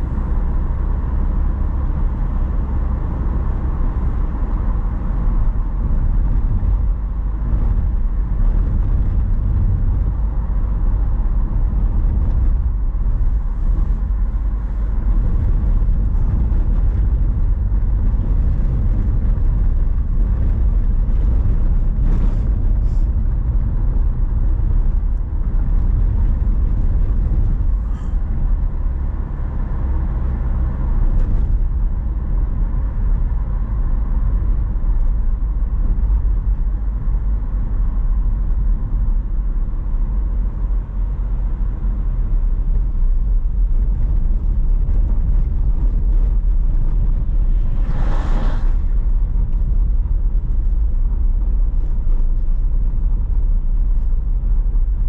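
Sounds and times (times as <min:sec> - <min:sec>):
rush of noise: 0:00.0 - 0:32.2, 0:42.7 - 0:55.0
car driving on road: 0:00.0 - 0:55.0.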